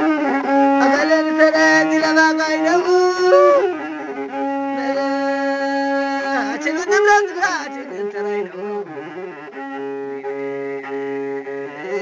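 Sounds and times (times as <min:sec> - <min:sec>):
bowed one-string fiddle: 0:00.0 - 0:12.0.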